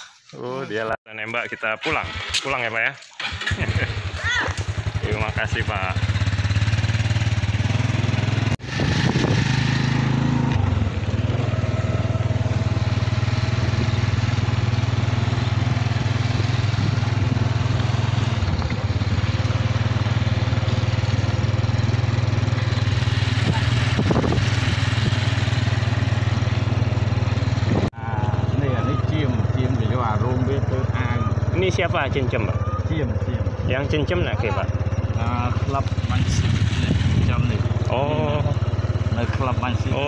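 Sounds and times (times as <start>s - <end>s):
motorcycle engine running: 3.2s - 40.0s
wind and road noise: 5.8s - 30.2s, 30.9s - 40.0s.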